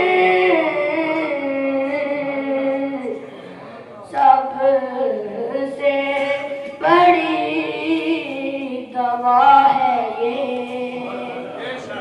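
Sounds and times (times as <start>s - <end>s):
boy singing unaccompanied: 0.0s - 3.2s, 4.0s - 12.0s.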